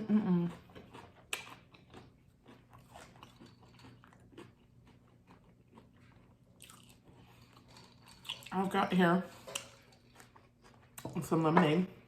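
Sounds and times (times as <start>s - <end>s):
person chewing food: 0.3s - 8.7s, 9.3s - 11.2s.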